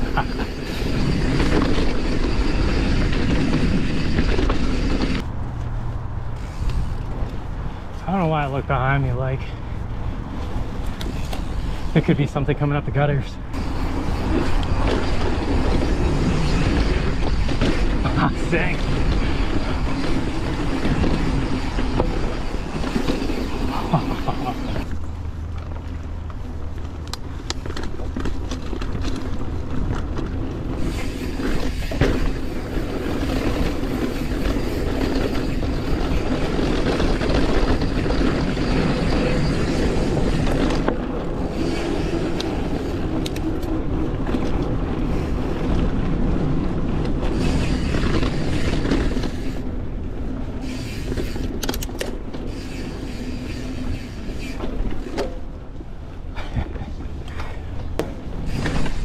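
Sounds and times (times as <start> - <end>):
wind rushing over microphone: 0.0 - 25.1, 29.4 - 51.6
bike tyre noise on dirt: 0.0 - 59.0.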